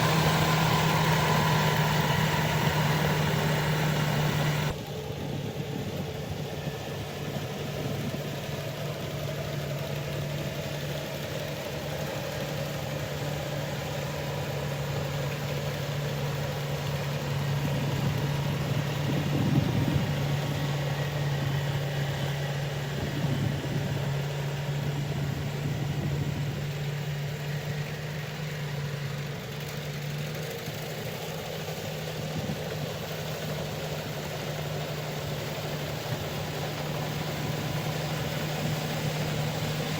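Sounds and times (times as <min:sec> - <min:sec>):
harvester engine droning: 0:00.0 - 0:39.9.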